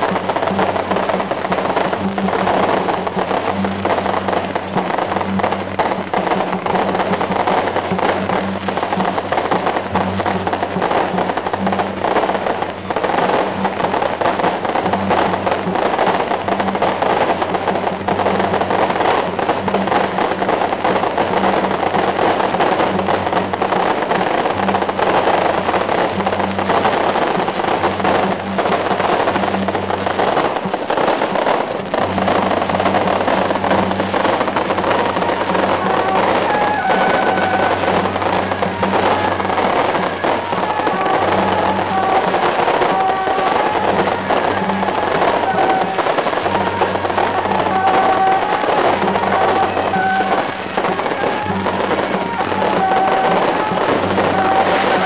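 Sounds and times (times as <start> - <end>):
firecrackers crackling: 0.0 - 55.0.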